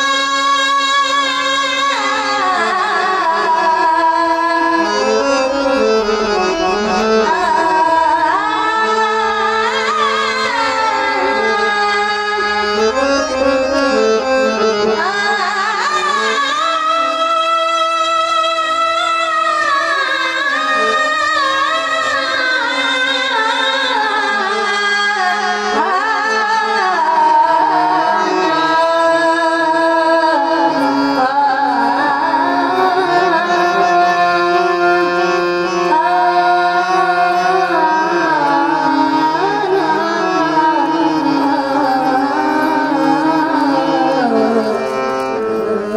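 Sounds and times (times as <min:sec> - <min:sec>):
instrumental accompaniment: 0:00.0 - 0:45.9
tabla playing: 0:00.0 - 0:45.9.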